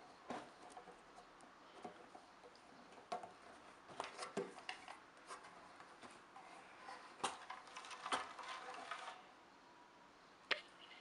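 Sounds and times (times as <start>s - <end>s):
objects rustling in cardboard box: 0.1s - 9.3s.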